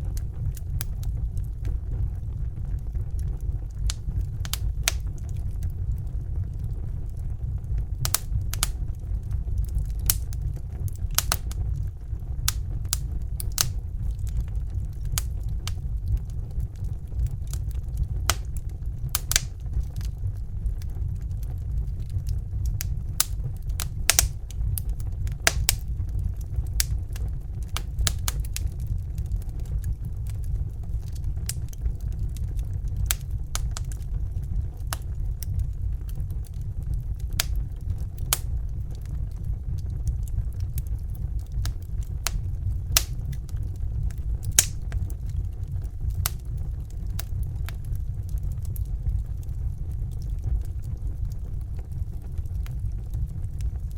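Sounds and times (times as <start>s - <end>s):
steady low rumble: 0.0s - 53.9s
wood fire crackling and popping: 0.0s - 53.9s.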